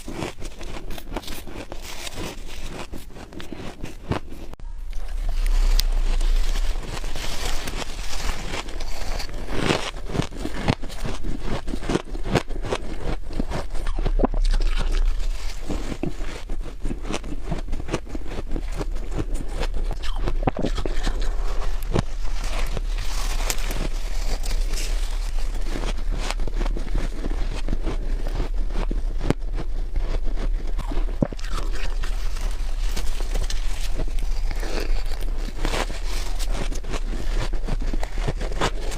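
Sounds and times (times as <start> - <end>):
frost being chewed crunching: 0.0 - 38.9.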